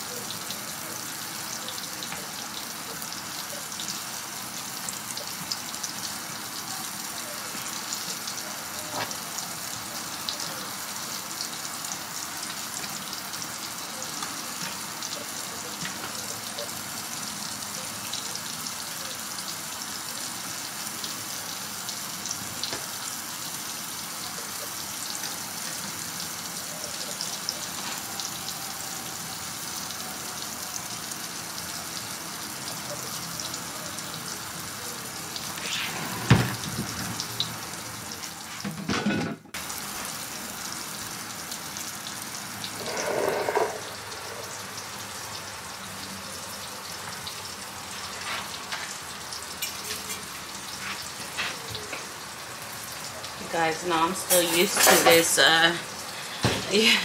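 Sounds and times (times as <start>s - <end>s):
vegetables sizzling in a frying pan: 0.0s - 57.0s.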